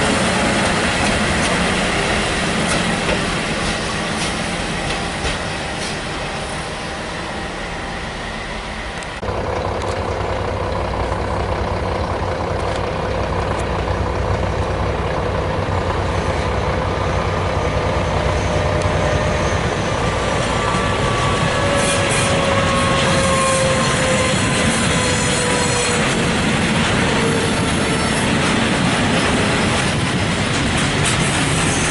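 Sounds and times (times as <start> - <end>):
diesel locomotive engine droning: 0.0 - 31.9.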